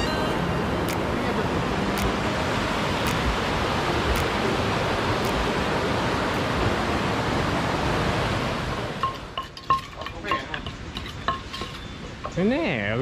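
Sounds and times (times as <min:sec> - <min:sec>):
water rushing over rocks: 0:00.0 - 0:11.6.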